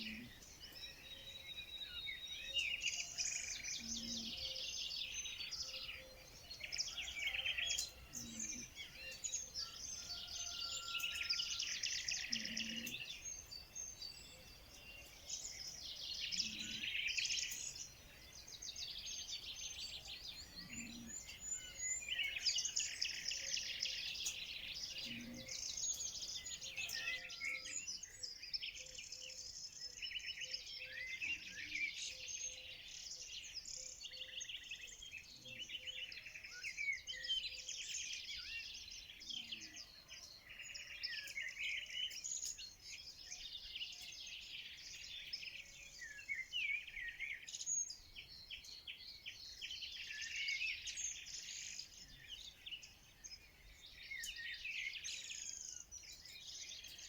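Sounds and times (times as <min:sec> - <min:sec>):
small birds chorus: 0:00.0 - 0:57.0.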